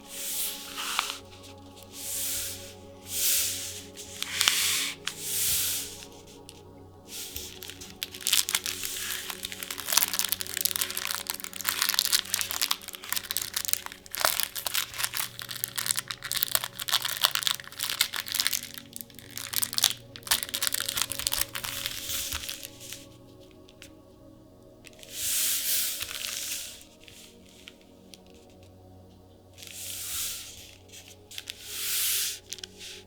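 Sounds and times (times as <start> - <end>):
plastic packaging crinkling: 0.0 - 24.0, 24.7 - 33.0
soft background music: 0.0 - 33.0.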